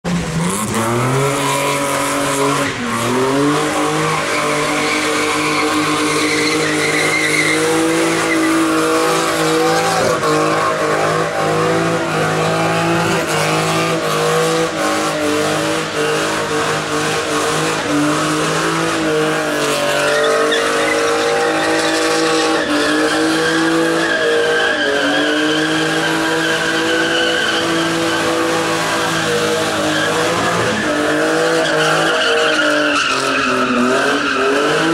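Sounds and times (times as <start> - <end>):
car engine at high revs: 0.0 - 34.9
spinning tyres squealing: 0.1 - 34.9.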